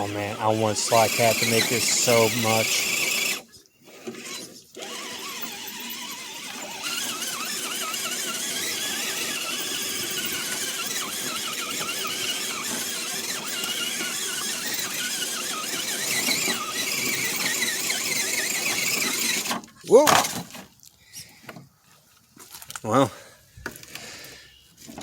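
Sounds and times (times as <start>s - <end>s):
toy car electric motor whining: 0.0s - 20.6s.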